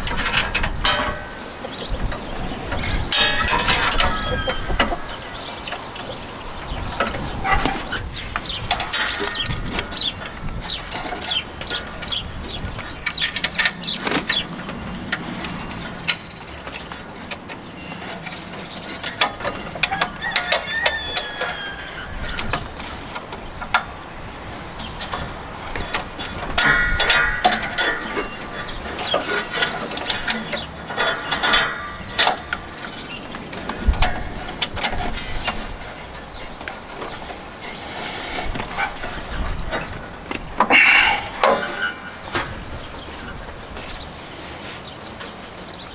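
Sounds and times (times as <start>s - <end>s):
metallic clicks and rattles of seat frame: 0.0s - 45.9s.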